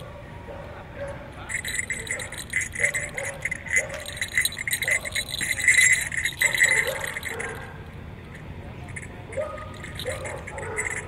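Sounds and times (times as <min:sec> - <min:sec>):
jingle bells jingling: 0:01.3 - 0:11.0.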